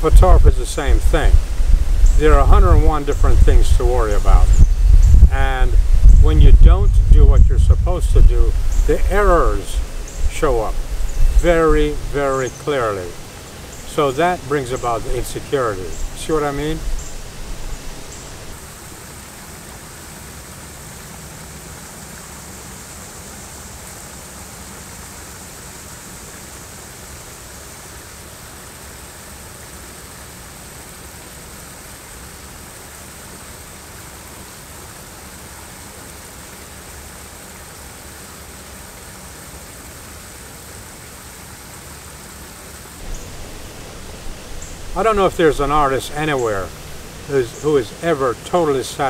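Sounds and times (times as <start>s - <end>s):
waterfall splashing over rocks: 0.0s - 49.0s.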